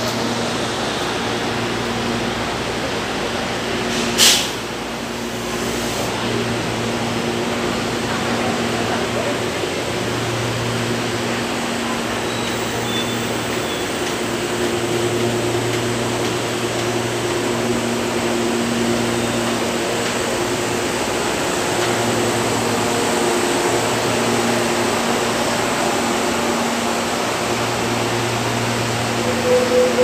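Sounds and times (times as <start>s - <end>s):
train air conditioning hum: 0.0s - 30.0s.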